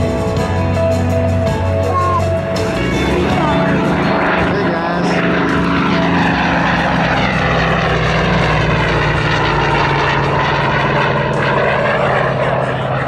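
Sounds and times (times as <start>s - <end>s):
propeller plane engine flyby: 0.0s - 13.0s.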